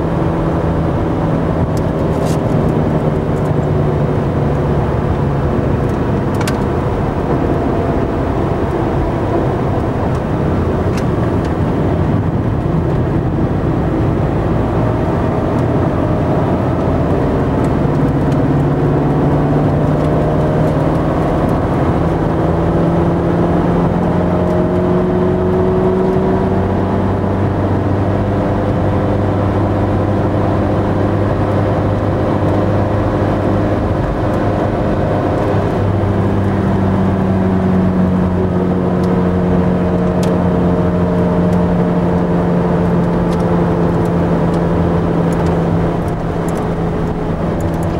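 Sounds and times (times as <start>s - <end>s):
car engine from inside cabin: 0.0s - 47.9s
road and tyre noise: 0.0s - 47.9s.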